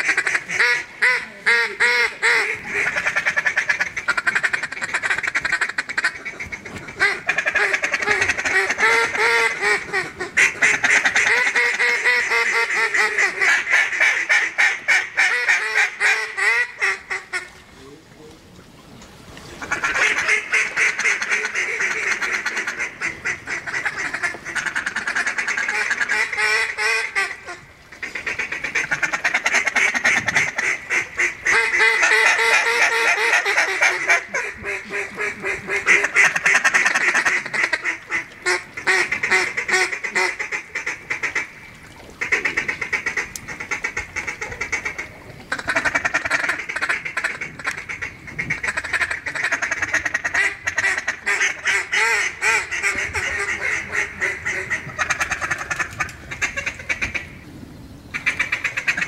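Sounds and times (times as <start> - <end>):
ducks quacking: 0.0 - 17.9, 19.4 - 57.4, 58.1 - 59.0.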